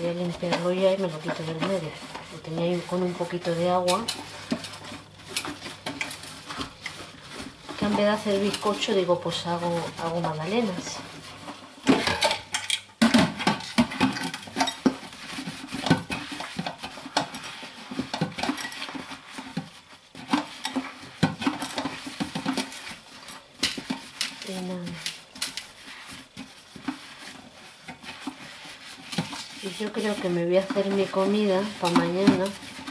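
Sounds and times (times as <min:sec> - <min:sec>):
sponge scrubbing metal tin: 0:00.0 - 0:32.9.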